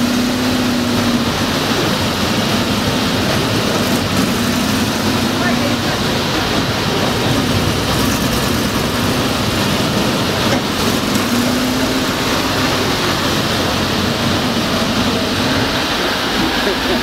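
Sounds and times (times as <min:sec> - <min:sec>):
amphibious vehicle engine running: 0:00.0 - 0:17.0.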